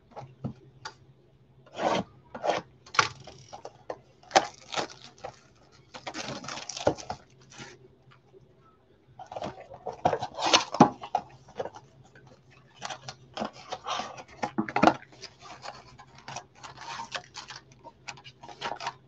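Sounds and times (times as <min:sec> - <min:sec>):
cardboard rustling and scraping: 0:01.7 - 0:03.7, 0:04.3 - 0:07.8, 0:09.2 - 0:19.0.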